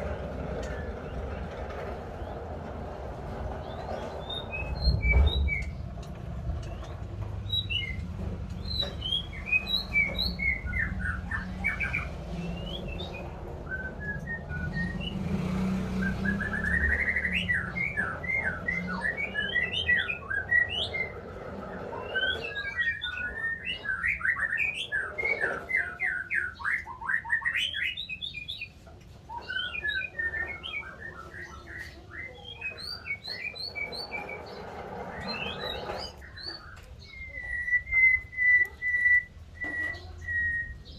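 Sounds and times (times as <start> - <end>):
bird whistling and chirping: 3.6 - 40.9.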